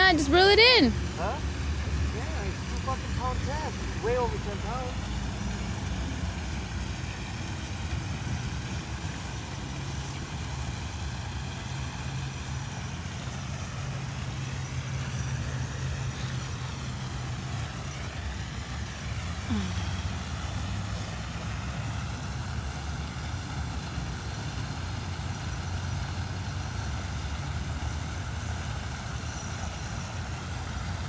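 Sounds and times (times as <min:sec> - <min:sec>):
low engine hum: 0:00.0 - 0:31.0
outdoor background noise: 0:00.0 - 0:31.0.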